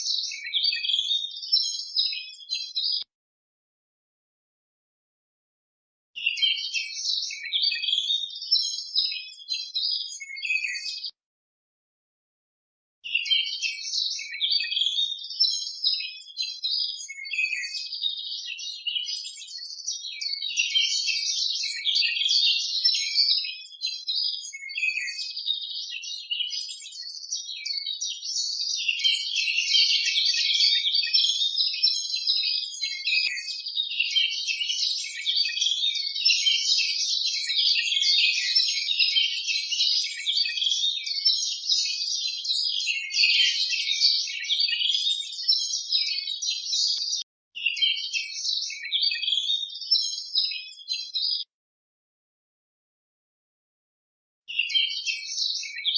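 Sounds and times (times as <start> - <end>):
small birds twittering: 0.0 - 3.1, 6.2 - 11.2, 13.1 - 51.5, 54.5 - 55.9.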